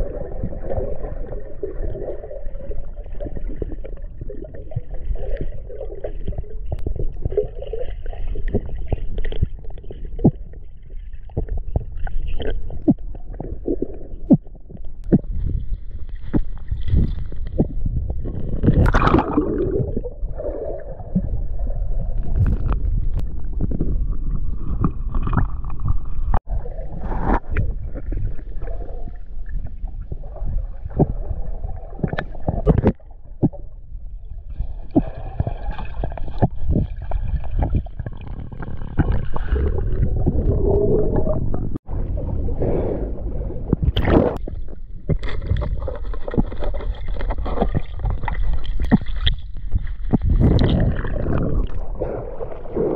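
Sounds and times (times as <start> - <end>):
gurgling bubbles: 0.0 - 52.9
muffled underwater rumble: 0.0 - 52.9.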